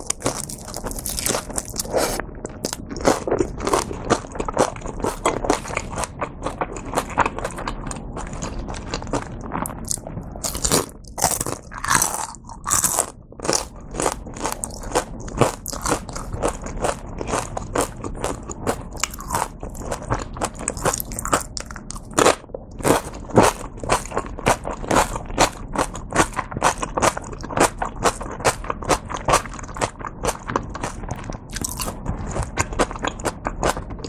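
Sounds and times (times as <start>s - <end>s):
crunchy chewing of fried food: 0.0s - 34.0s.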